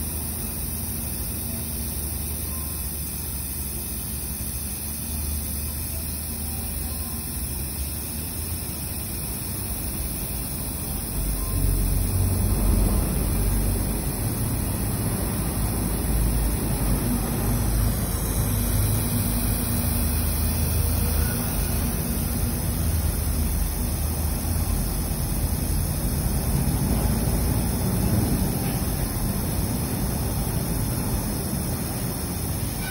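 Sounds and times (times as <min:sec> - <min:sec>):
aerosol spray hissing: 0:00.0 - 0:32.9.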